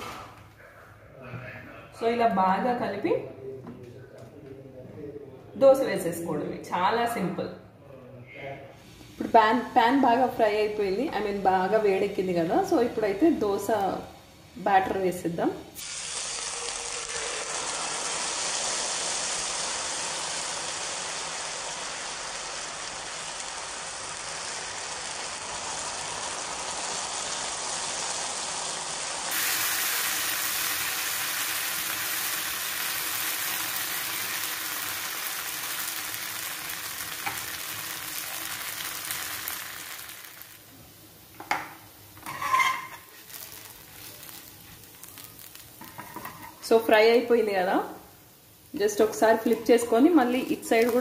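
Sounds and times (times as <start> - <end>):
batter sizzling in hot oil: 0.0 - 0.4, 8.8 - 51.0.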